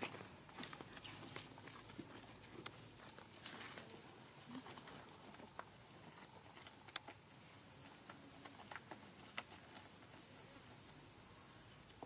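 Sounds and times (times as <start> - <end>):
faint clicks and rustles: 0.0 - 11.1
steady high hiss: 2.3 - 12.0.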